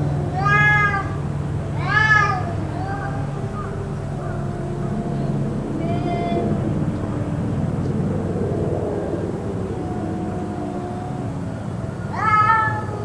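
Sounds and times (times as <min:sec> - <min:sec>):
low outdoor rumble: 0:00.0 - 0:13.0
cats yowling: 0:00.1 - 0:08.0, 0:08.7 - 0:13.0.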